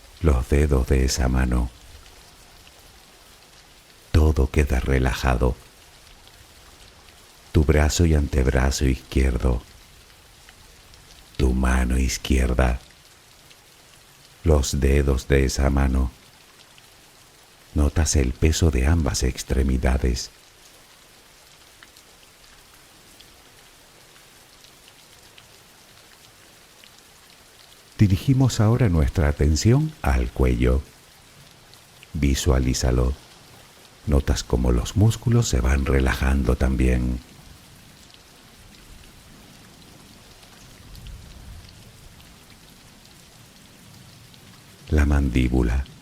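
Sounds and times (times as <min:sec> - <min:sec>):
raindrop ticks: 0:00.0 - 0:46.0
soft steady rain: 0:00.0 - 0:46.0.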